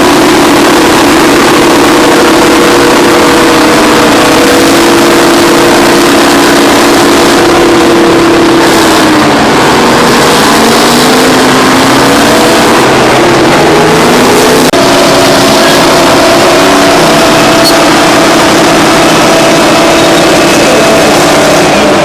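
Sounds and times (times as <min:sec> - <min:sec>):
bulldozer diesel engines working: 0:00.0 - 0:22.0.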